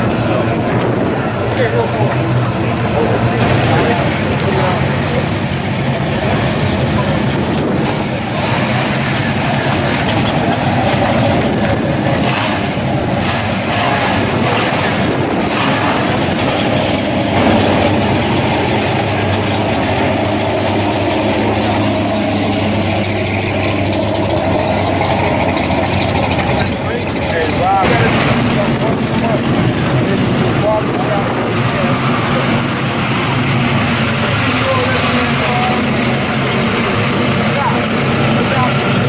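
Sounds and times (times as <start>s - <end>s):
car engines exhaust rumble: 0.0s - 39.0s.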